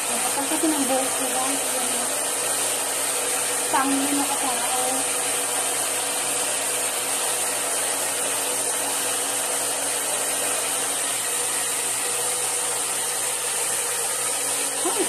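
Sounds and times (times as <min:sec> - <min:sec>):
hair dryer blowing air: 0:00.0 - 0:15.0.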